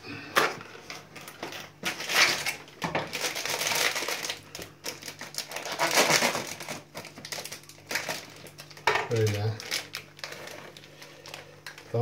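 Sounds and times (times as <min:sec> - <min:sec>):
crinkling of a snack packet: 0:00.9 - 0:12.0.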